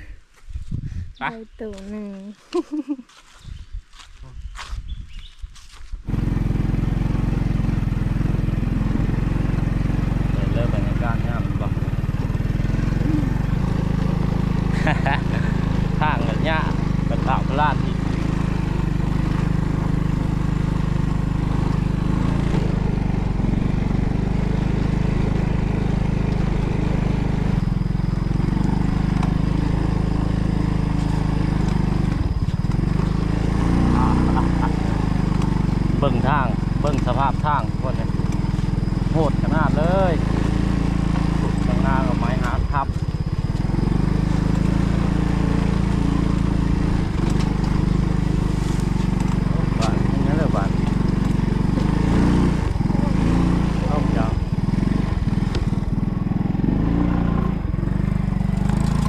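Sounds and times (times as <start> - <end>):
small engine running: 6.0 - 59.0.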